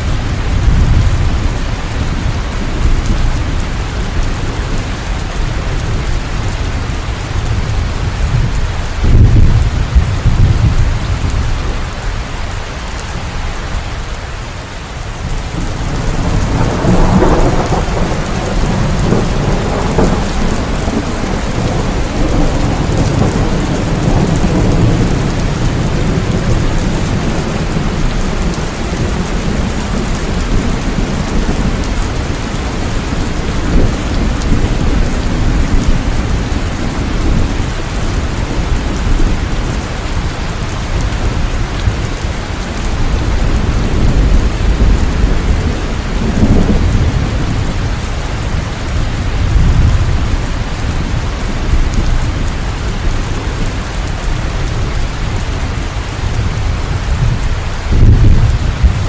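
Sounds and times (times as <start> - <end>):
rumbling thunder: 0.0 - 12.0, 15.3 - 59.0
steady rainfall: 0.0 - 59.0.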